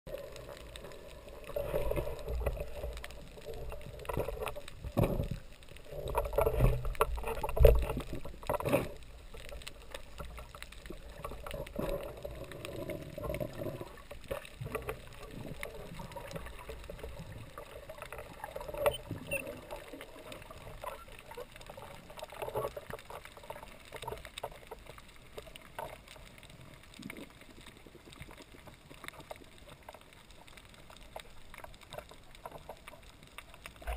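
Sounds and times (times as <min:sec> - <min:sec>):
faint underwater clicks: 0:00.1 - 0:33.9
muffled underwater rushing: 0:00.1 - 0:33.9.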